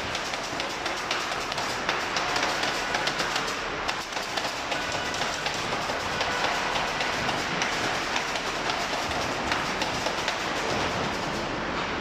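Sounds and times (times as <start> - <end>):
machinery running: 0.0 - 12.0.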